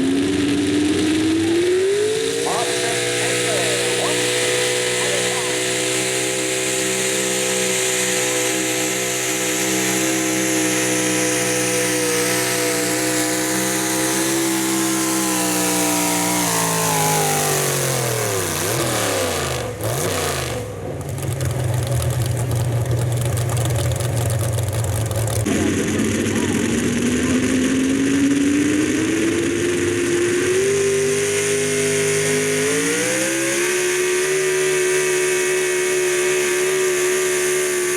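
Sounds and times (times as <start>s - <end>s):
truck engine revving high: 0.0s - 37.9s.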